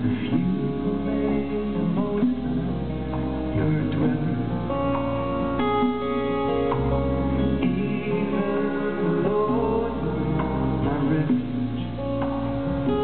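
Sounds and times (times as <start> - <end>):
low bass notes: 0.0 - 13.0
resonator guitar: 0.0 - 13.0
strummed acoustic guitar: 0.0 - 13.0.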